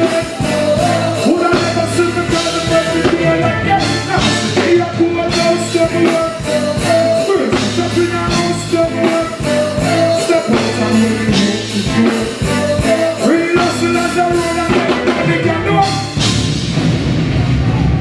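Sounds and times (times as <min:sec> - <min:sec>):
person singing: 0:00.0 - 0:16.2
live reggae band: 0:00.0 - 0:18.0.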